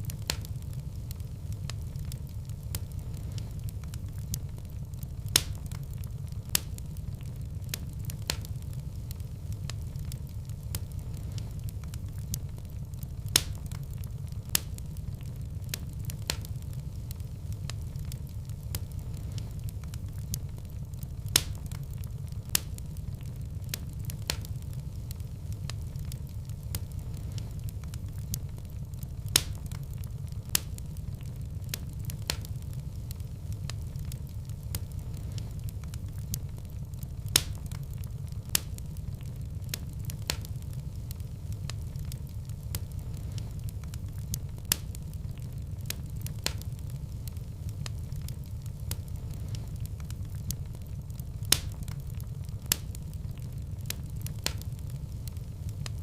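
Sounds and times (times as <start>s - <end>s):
fire crackling: 0.0s - 56.0s
sharp pops of fire: 0.0s - 56.0s.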